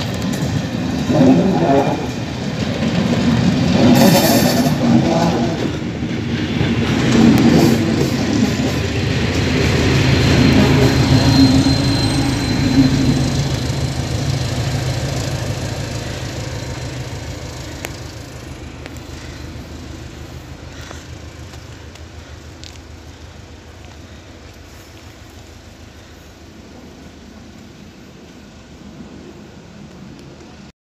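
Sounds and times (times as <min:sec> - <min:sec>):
locomotive engine hum: 0:00.0 - 0:30.7
train wheels rumbling and rattling: 0:00.0 - 0:30.7.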